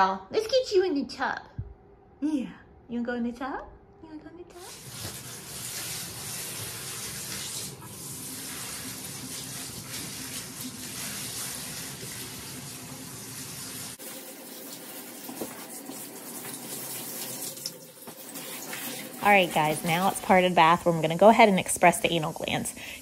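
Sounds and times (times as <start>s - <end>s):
shower sprayer spraying water: 4.6s - 23.0s.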